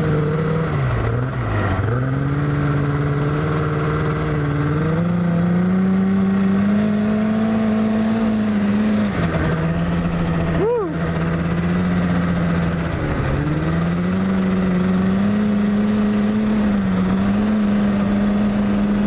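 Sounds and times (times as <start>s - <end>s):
snowmobile engine under throttle: 0.0s - 19.0s.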